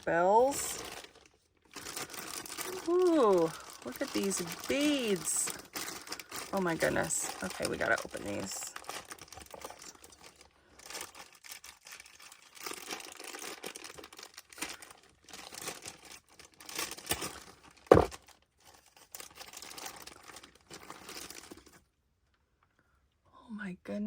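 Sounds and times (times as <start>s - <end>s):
packaging crinkling and tearing: 0.0s - 21.9s.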